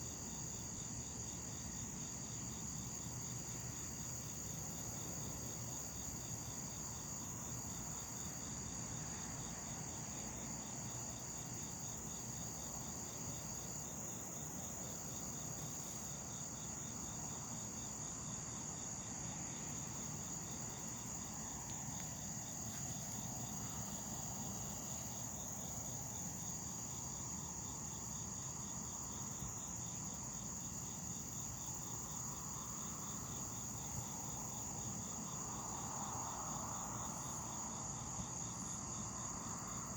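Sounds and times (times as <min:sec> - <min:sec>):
crickets trilling: 0:00.2 - 0:39.9.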